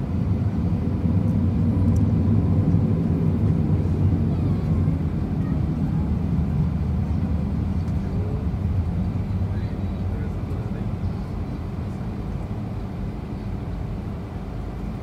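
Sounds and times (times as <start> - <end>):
airliner cabin rumble: 0.0 - 15.0
faint engine whine: 0.0 - 15.0.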